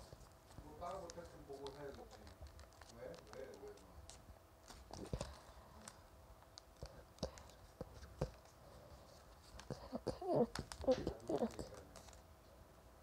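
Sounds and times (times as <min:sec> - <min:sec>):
paper crinkling: 0:00.0 - 0:12.2.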